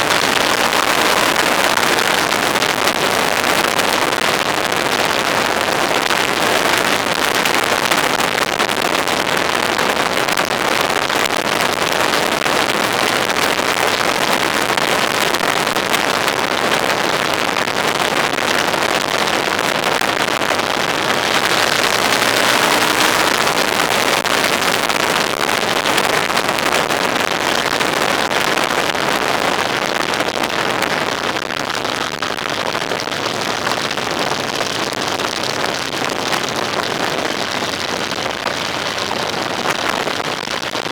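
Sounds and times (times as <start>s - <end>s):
wind and road noise: 0.0s - 40.2s.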